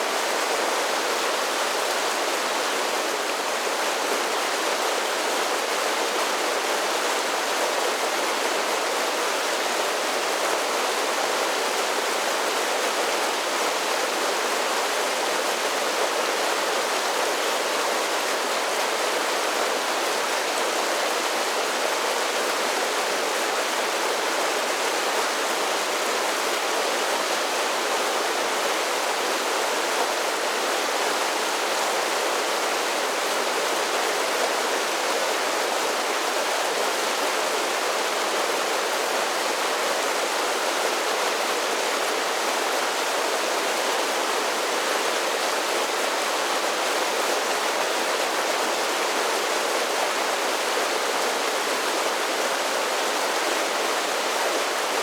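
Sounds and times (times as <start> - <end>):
creek water rushing over falls: 0.0 - 55.0.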